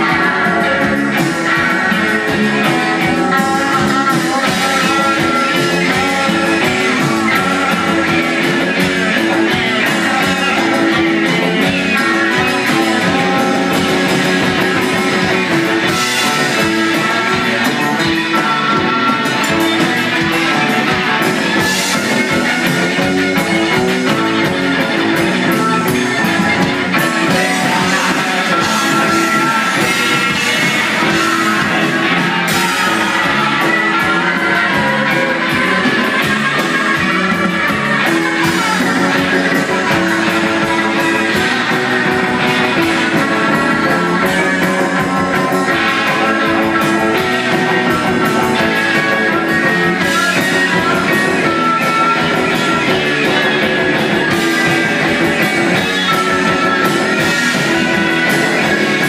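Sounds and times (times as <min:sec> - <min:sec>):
electric guitar: 0:00.0 - 0:59.0
rock band playing live: 0:00.0 - 0:59.0.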